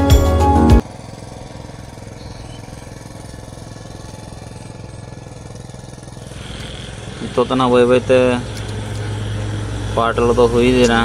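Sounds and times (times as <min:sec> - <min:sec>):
power tiller diesel engine running: 0:00.0 - 0:11.0.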